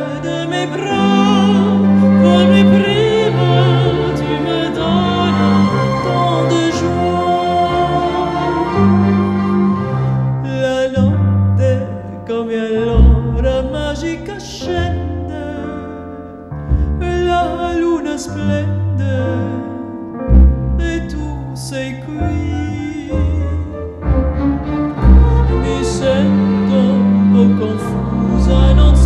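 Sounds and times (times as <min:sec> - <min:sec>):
string ensemble: 0:00.0 - 0:29.0.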